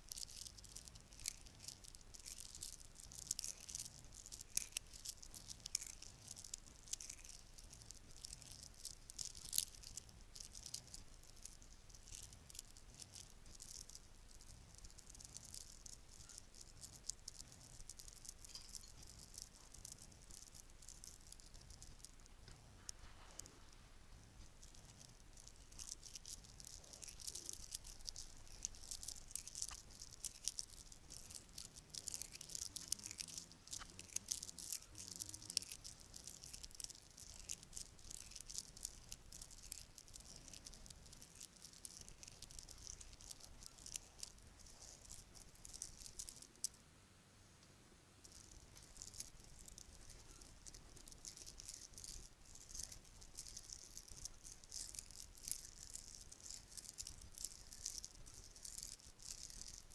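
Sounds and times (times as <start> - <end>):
bracelets rattling and clinking: 0.0 - 22.3, 24.5 - 46.8, 48.2 - 59.9.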